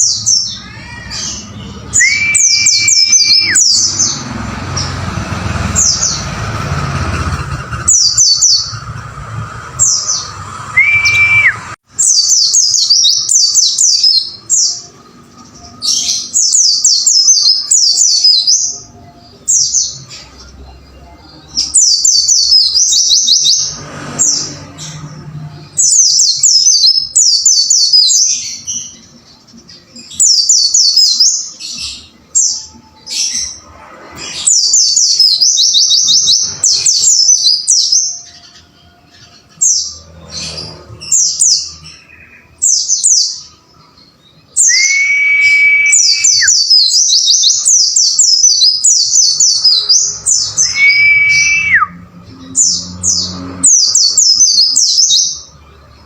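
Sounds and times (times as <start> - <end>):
bird singing rapid falling notes: 0.0 - 33.6, 34.3 - 55.6.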